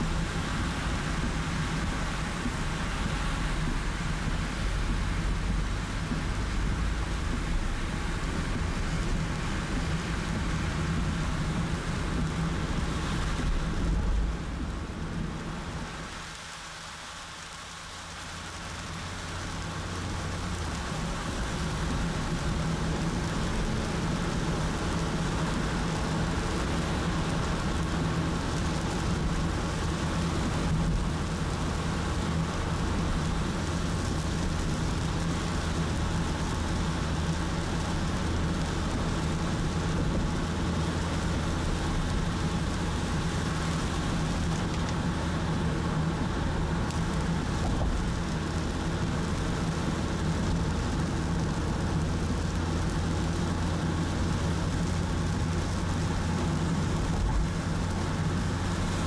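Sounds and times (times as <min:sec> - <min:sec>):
heavy rain on a car: 0:00.0 - 0:59.0
road and engine hum: 0:00.0 - 0:59.0.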